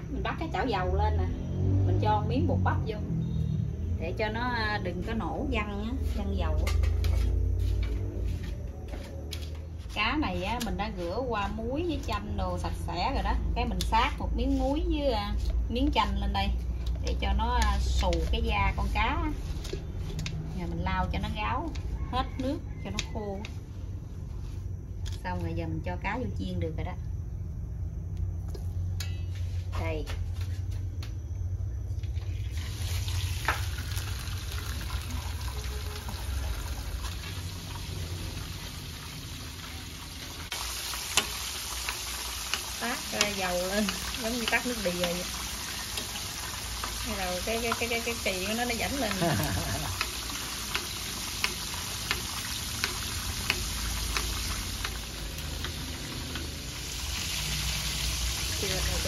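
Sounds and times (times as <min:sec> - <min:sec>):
oil sizzling: 0:03.3 - 0:25.2, 0:32.1 - 0:59.0.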